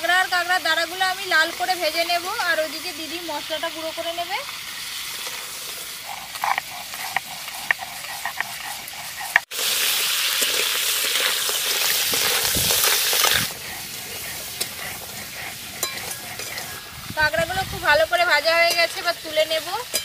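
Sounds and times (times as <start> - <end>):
crab frying in oil: 0.0 - 20.0.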